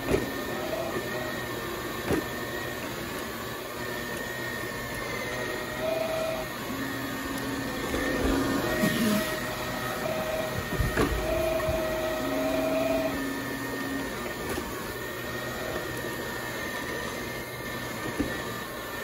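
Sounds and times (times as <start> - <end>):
floor scrubber motor hum and whine: 0.0 - 19.0.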